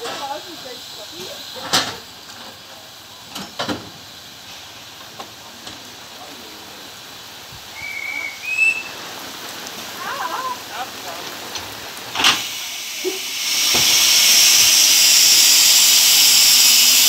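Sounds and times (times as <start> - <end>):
rain: 0.0 - 17.0
steam locomotive hissing: 0.0 - 17.0.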